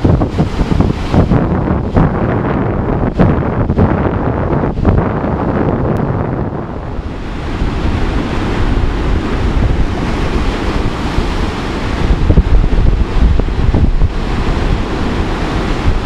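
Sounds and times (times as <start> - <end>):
surf breaking and washing: 0.0 - 16.0
wind buffeting microphone: 0.0 - 16.0.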